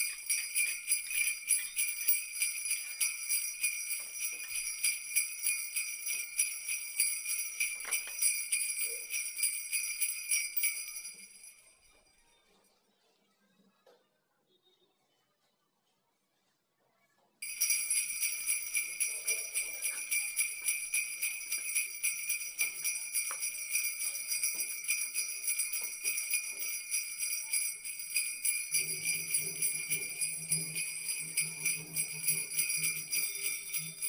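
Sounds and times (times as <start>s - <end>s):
bells jingling: 0.0s - 11.8s, 17.4s - 34.0s.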